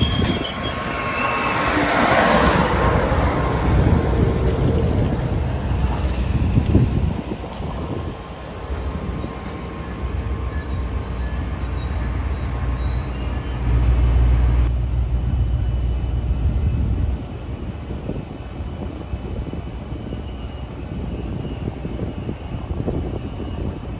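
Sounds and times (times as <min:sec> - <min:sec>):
train rumbling past: 0:00.0 - 0:23.9.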